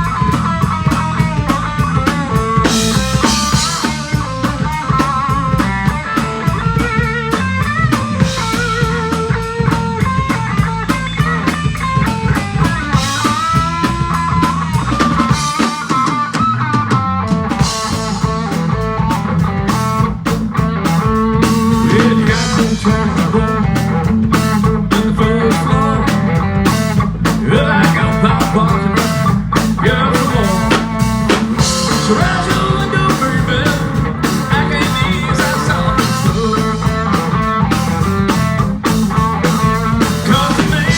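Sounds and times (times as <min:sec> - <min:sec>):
drum kit beat: 0:00.0 - 0:40.9
electric guitar lead with bending notes: 0:00.0 - 0:40.9.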